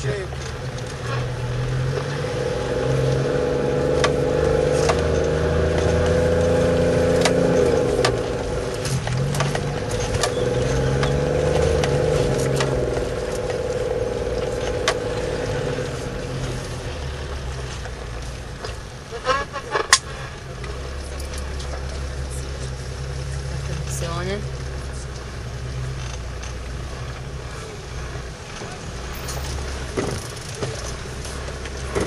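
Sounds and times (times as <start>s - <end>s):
vehicle knocks and rattles: 0.0s - 27.4s, 28.0s - 32.0s
vehicle engine running under load: 0.0s - 32.0s.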